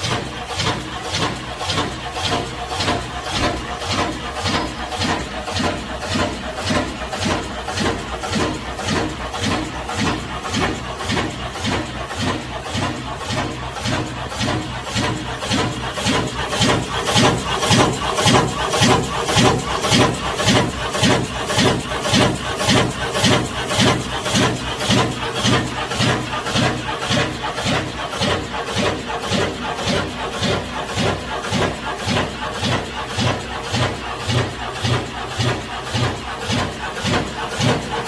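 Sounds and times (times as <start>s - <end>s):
meat slicer running: 0.0s - 38.0s.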